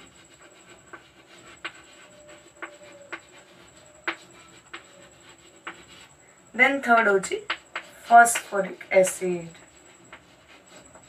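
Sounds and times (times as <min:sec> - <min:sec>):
pen scratching on surface: 0:00.0 - 0:11.0.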